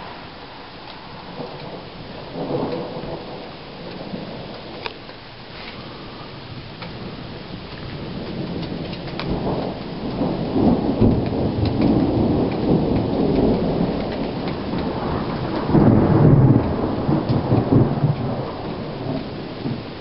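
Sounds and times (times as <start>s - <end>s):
raindrops ticking close by: 0.0s - 20.0s
rolling thunder: 0.0s - 20.0s
steady rain: 0.0s - 20.0s.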